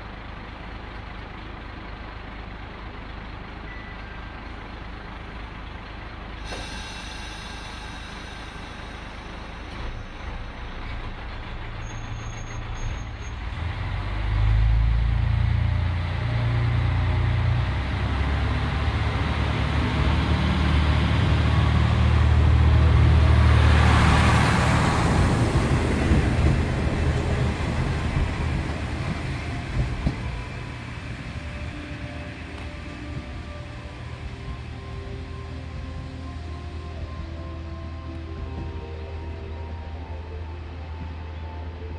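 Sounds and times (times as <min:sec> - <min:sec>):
diesel railcar engine throbbing: 0:00.0 - 0:41.9.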